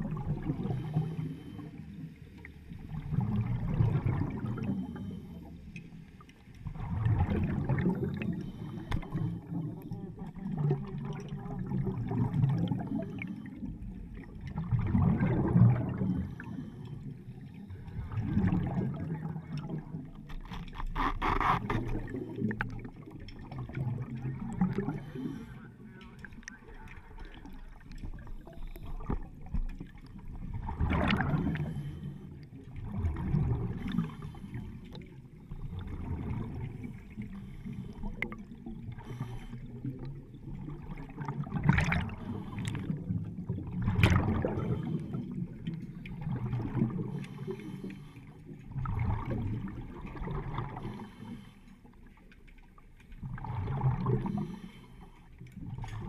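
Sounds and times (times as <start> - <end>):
underwater exhaust bubbles gurgling: 0.0 - 56.0.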